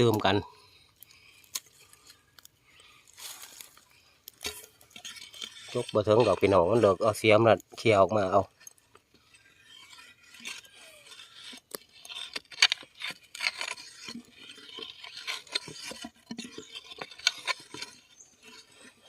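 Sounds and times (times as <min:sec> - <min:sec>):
spade scraping in soil: 0:01.3 - 0:19.0.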